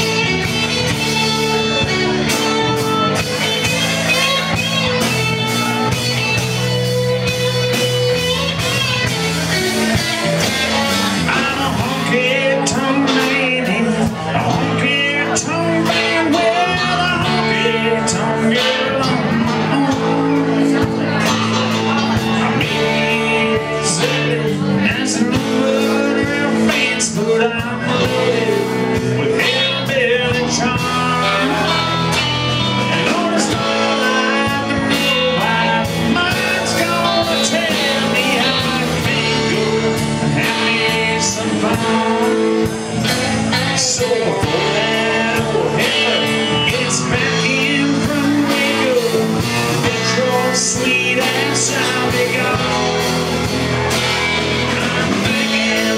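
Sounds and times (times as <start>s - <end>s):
bass and drums: 0.0s - 55.9s
electric guitar: 0.0s - 55.9s
person singing: 0.0s - 55.9s.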